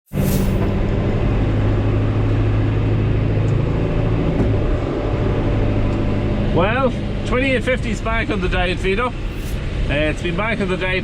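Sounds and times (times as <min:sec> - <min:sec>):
tractor engine droning: 0:00.2 - 0:11.0.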